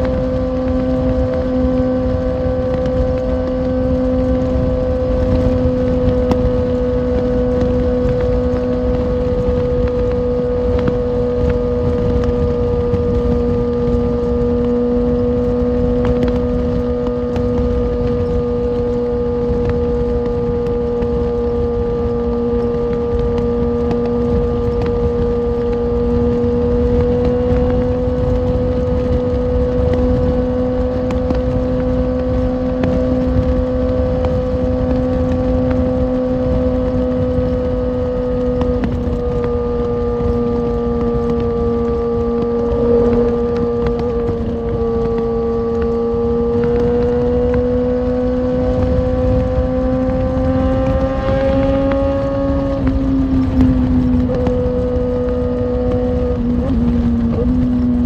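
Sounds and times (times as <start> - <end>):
motorcycle engine cruising: 0.0 - 58.0
rushing wind noise: 0.0 - 58.0.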